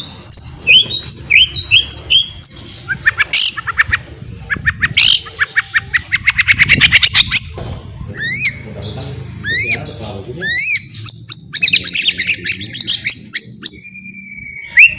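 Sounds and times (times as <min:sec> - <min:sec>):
songbird whistling and chattering: 0:00.0 - 0:14.9.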